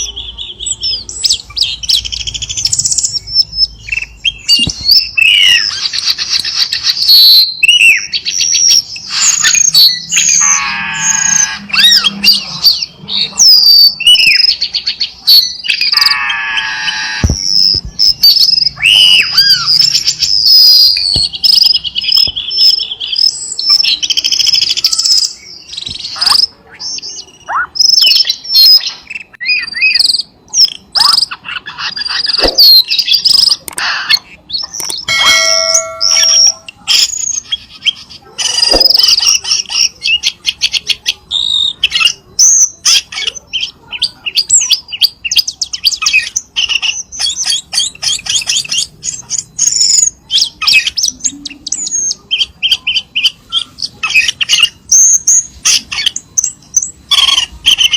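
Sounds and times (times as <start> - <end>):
bird song with chirps and trills: 0.0 - 57.9.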